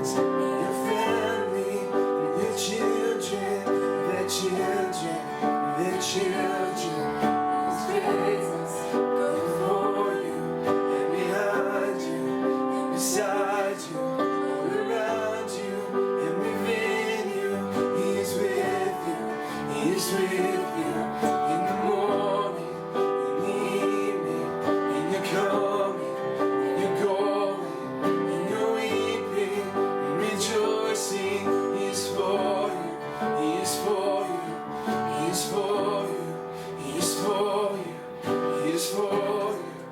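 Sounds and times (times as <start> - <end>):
piano chords: 0.0 - 39.9
voices singing long notes: 0.0 - 39.9.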